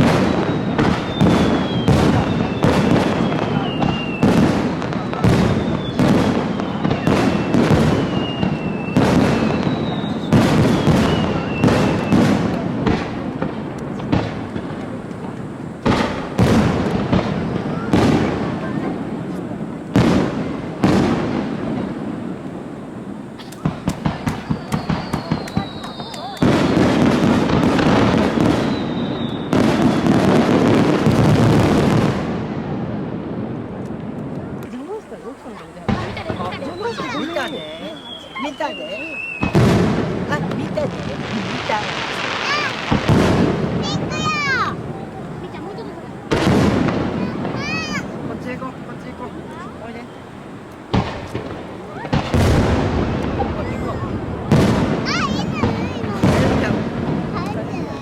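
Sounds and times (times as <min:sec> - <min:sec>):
whistling firework shells: 0:00.0 - 0:32.5, 0:35.8 - 0:58.0
firework shells bursting: 0:00.0 - 0:32.7, 0:35.8 - 0:58.0.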